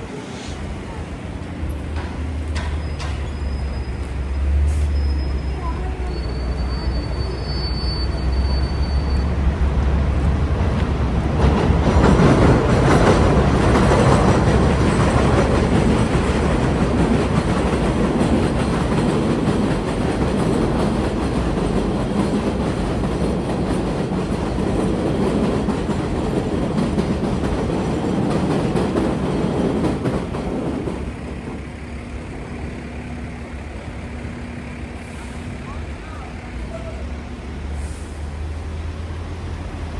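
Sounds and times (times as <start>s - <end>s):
subway train wheels rumbling: 0.0s - 39.9s.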